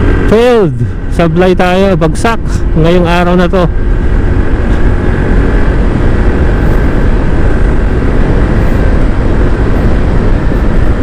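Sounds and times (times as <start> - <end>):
scooter engine running: 0.0 - 11.0
wind rush on microphone: 0.0 - 11.0.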